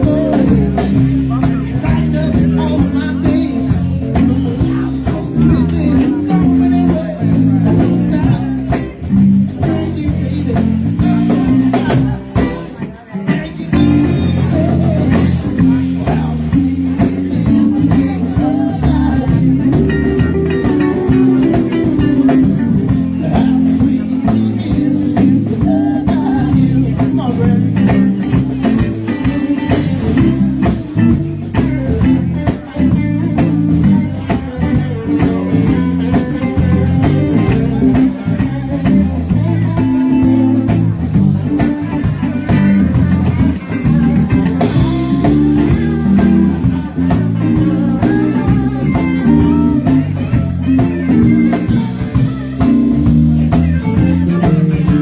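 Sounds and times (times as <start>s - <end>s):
blues-rock band playing: 0.0s - 55.0s
electric guitar: 0.0s - 55.0s.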